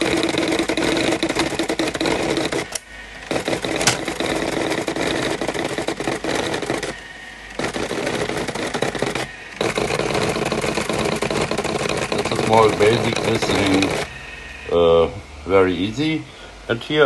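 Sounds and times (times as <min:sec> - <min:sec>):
plotter ticking and whirring: 0:00.0 - 0:16.2.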